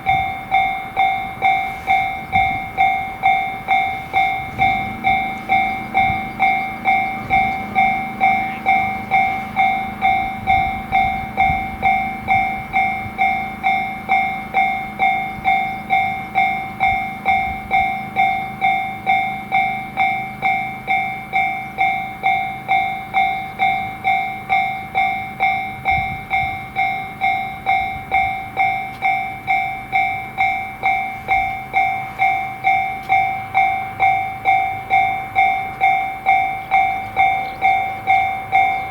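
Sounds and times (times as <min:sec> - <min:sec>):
low rumble of passing train: 0:00.0 - 0:38.9
railroad crossing bell ringing: 0:00.0 - 0:38.9.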